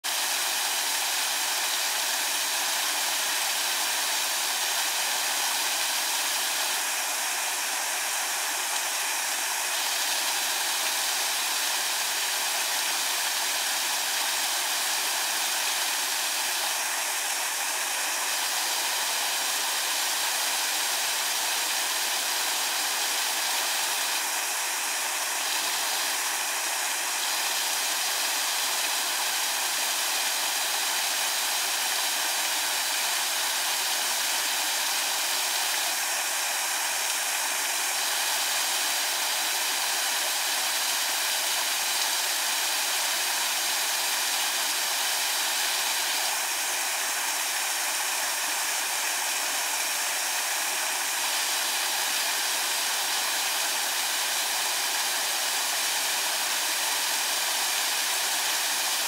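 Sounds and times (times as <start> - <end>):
small waterfall splashing onto rocks: 0.0 - 59.0.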